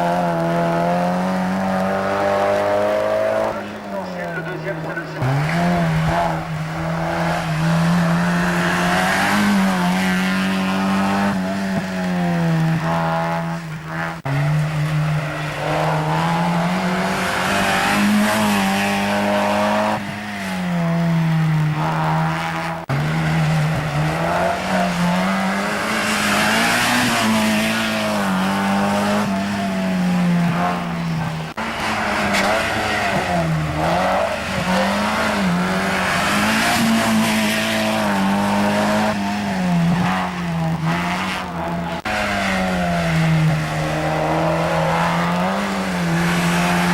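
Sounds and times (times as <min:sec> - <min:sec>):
race car engines running hard: 0:00.0 - 0:46.9.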